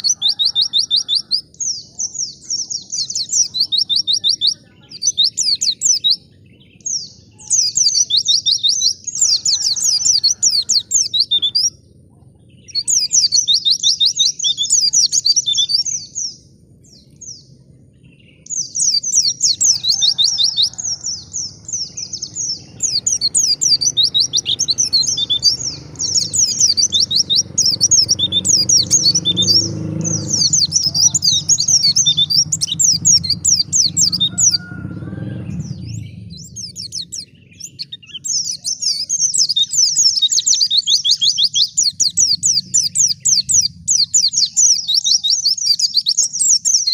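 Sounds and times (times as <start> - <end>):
bird chattering twitter: 0.0 - 46.9.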